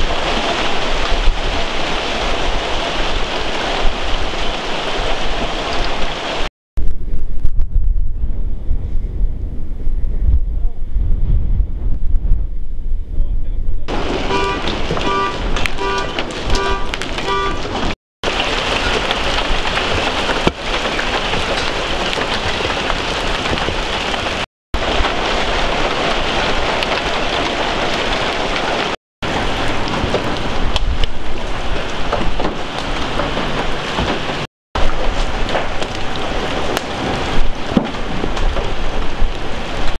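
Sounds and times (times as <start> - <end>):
hail and rain pelting: 0.0 - 6.5, 13.9 - 40.0.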